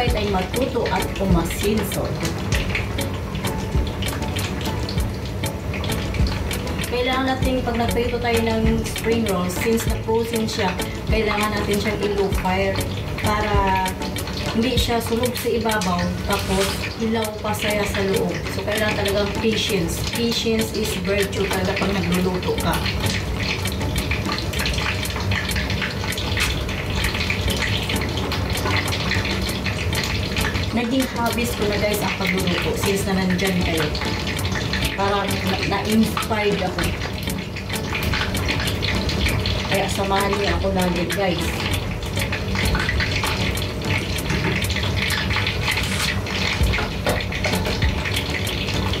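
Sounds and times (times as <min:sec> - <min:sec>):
food sizzling in oil: 0:00.0 - 0:49.0
oil crackling and popping: 0:00.0 - 0:49.0.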